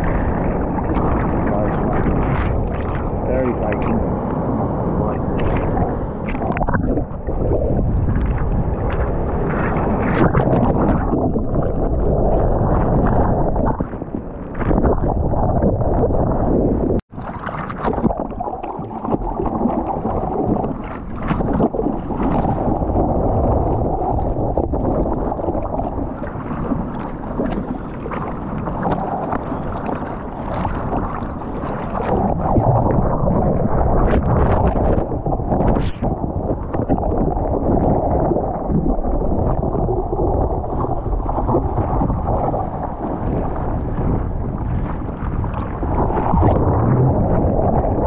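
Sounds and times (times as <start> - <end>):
seawater splashing: 0.0 - 48.0.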